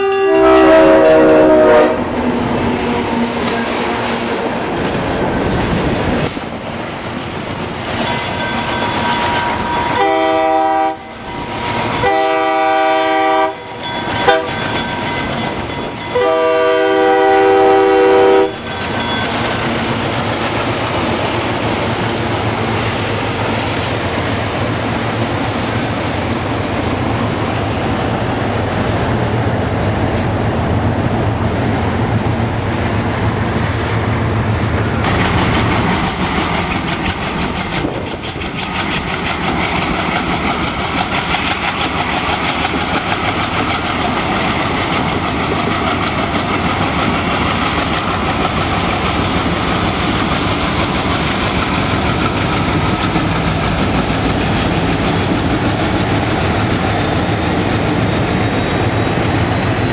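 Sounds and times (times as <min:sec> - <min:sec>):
diesel locomotive engines: 0:00.0 - 0:59.9
train wheels clacking over rail joints: 0:00.9 - 0:29.4, 0:34.6 - 0:59.9.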